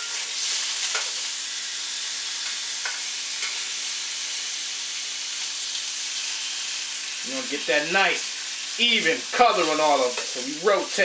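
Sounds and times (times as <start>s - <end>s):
hot dogs sizzling: 0.0s - 11.0s.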